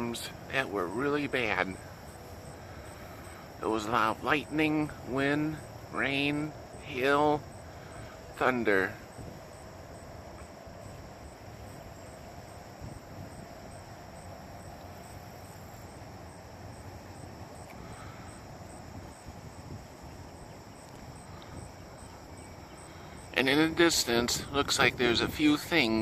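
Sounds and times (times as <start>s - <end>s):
insects chirping: 0.0s - 26.0s
low steady rumble: 0.0s - 26.0s.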